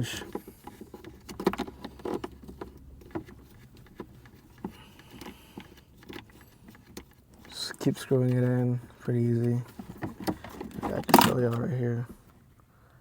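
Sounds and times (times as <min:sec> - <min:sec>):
plastic parts clicking and tapping: 0:00.0 - 0:12.1.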